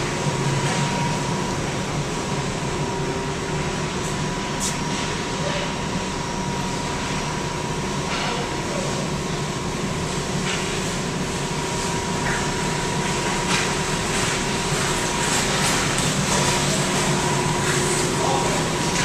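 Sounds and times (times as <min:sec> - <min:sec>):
ventilation machinery hum: 0:00.0 - 0:19.0.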